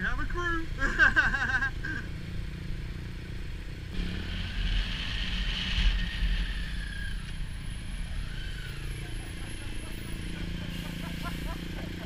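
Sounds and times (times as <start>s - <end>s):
wind and road hiss: 0.1s - 12.0s.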